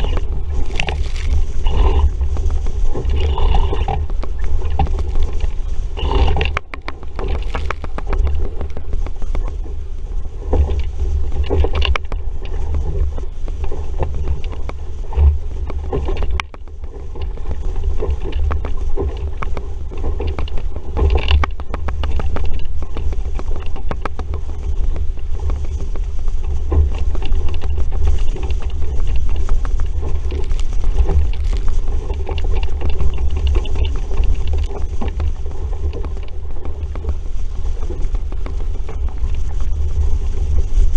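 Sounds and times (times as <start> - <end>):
water splashing along hull: 0.0 - 40.9
wind buffeting microphone: 0.0 - 40.9.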